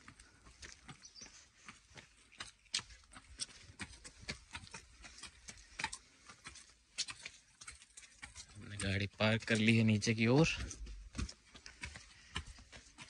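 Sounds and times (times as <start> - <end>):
footsteps on concrete stairs: 0.0 - 13.0.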